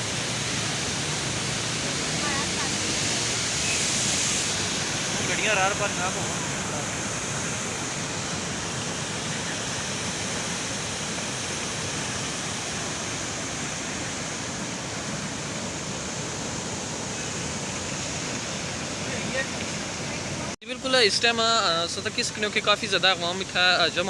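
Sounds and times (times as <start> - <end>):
floodwater rushing in stream: 0.0 - 24.0.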